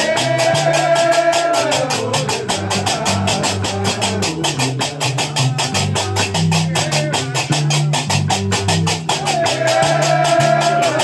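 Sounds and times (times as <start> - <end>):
deep bass notes: 0.0 - 11.0
fast percussion clatter: 0.0 - 11.0.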